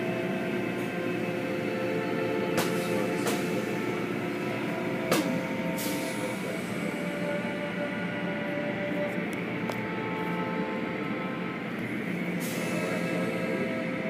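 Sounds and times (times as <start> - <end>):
car wash motors and pumps humming: 0.0 - 14.0.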